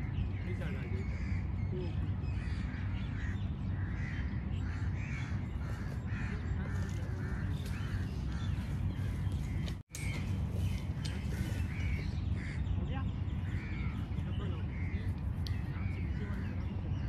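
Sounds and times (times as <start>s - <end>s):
birds calling: 0.0s - 17.0s
steady low rumble: 0.0s - 17.0s.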